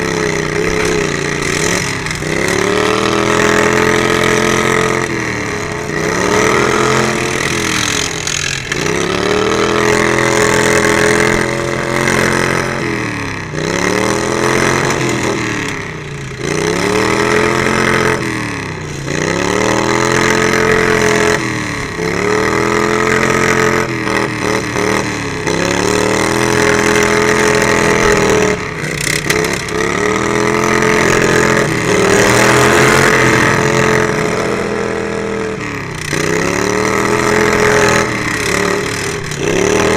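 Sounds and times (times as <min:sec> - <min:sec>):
lawn mower engine revving: 0:00.0 - 0:39.9.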